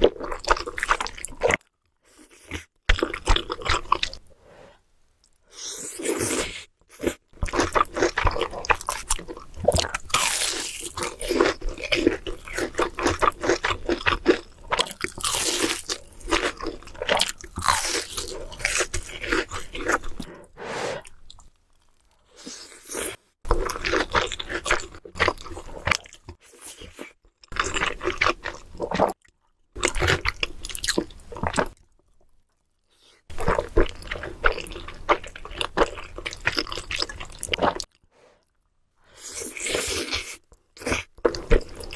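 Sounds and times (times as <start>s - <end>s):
crunchy bites and chewing: 0.0s - 4.2s, 5.7s - 20.3s, 21.0s - 32.2s, 33.3s - 38.0s.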